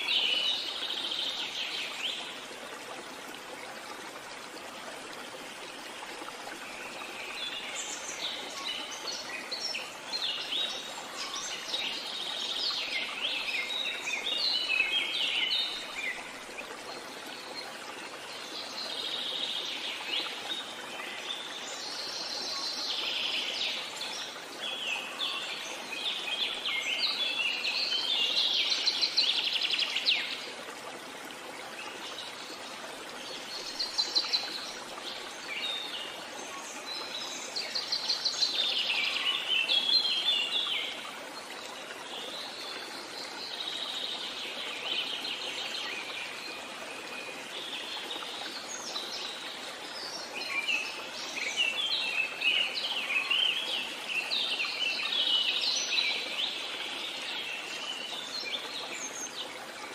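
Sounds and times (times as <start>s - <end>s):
small waterfall flowing: 0.0s - 59.9s.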